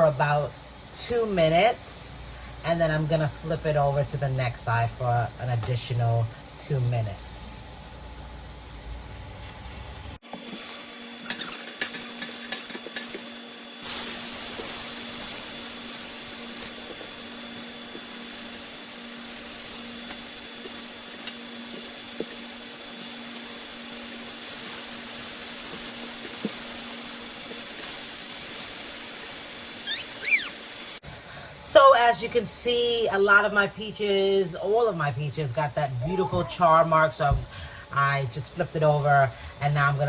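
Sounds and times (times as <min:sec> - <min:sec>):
fruit sizzling on a grill: 0:00.0 - 0:40.0.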